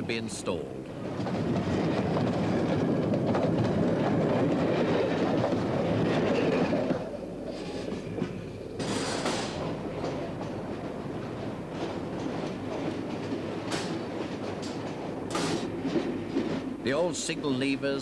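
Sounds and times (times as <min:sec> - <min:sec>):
train clattering on rails: 0:00.0 - 0:18.0.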